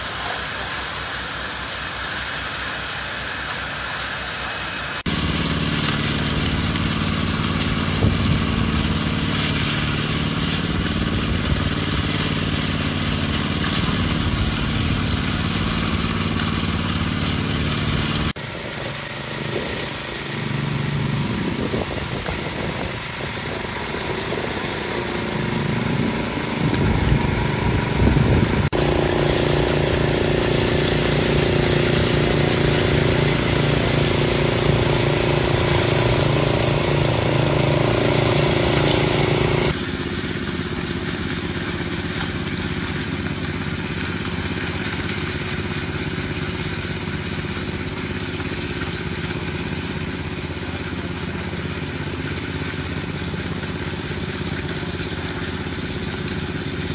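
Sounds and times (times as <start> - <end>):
power trowel engine running: 0.0 - 56.9.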